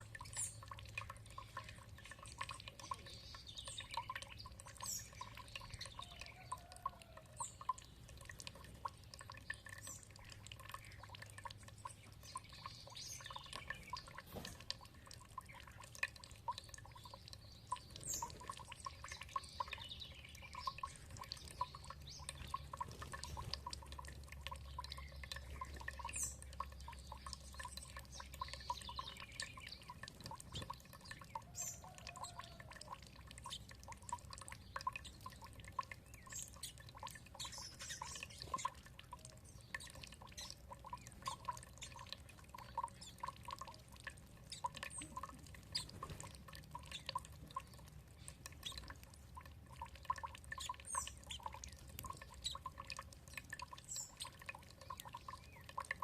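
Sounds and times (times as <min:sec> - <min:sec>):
water dripping and trickling: 0:00.0 - 0:56.0
birds chirping: 0:00.1 - 0:56.0.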